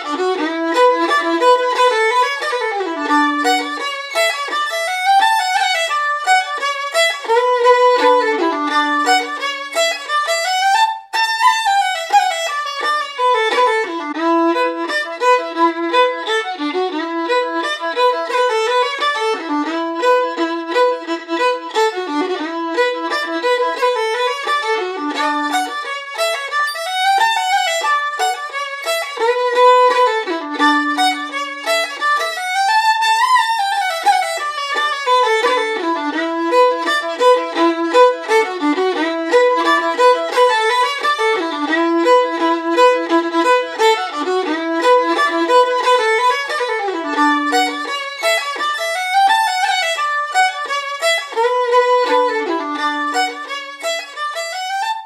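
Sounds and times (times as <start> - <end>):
solo fiddle tune: 0.0 - 55.0.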